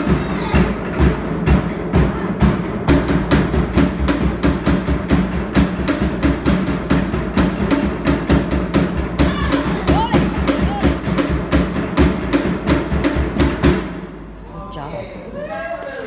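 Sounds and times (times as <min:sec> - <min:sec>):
fast drum beat: 0:00.0 - 0:13.9.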